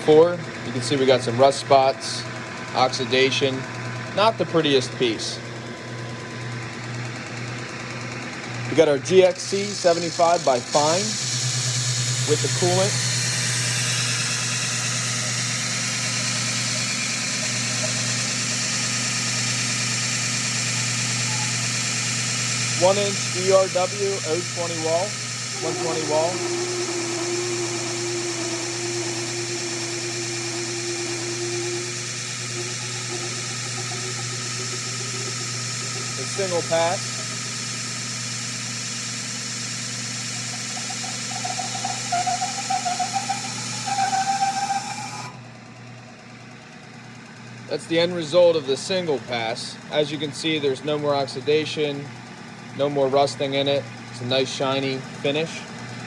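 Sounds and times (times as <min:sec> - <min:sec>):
belt grinder motor hum: 0:00.0 - 0:56.0.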